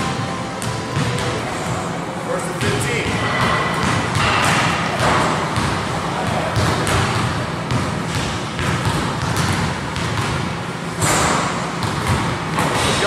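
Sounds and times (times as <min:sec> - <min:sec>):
basketballs bouncing on court: 0:00.6 - 0:01.8, 0:02.6 - 0:13.0.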